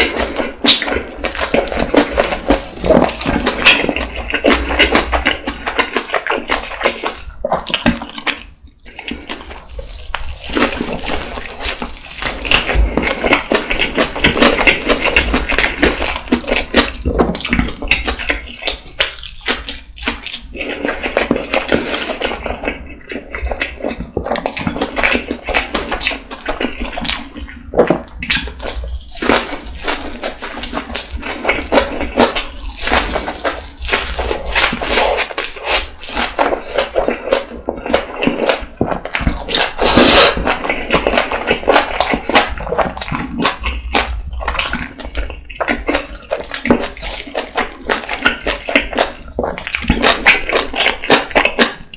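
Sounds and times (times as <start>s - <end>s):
chewing with mouth clicks: 0.0s - 51.9s.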